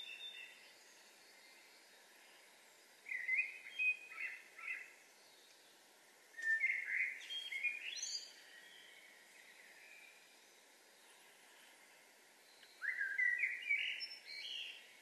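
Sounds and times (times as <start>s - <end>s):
faint steady hiss: 0.0s - 15.0s
songbird singing: 0.0s - 15.0s.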